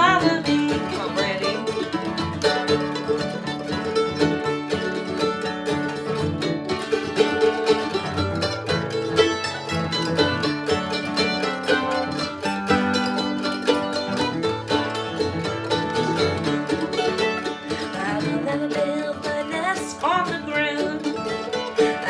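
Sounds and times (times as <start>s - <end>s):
acoustic guitar rhythm: 0.0s - 22.0s
mandolin lead: 0.0s - 22.0s
second mandolin: 0.0s - 22.0s.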